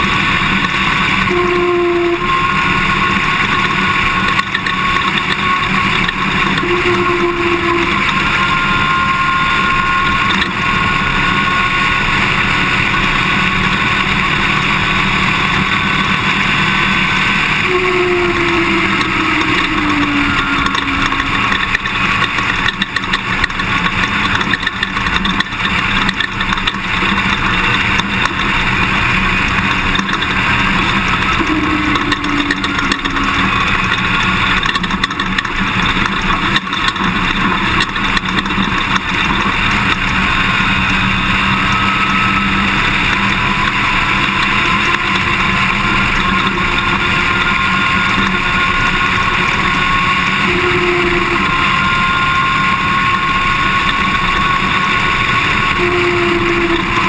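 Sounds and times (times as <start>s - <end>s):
pickup truck driving on dirt: 0.0s - 57.0s.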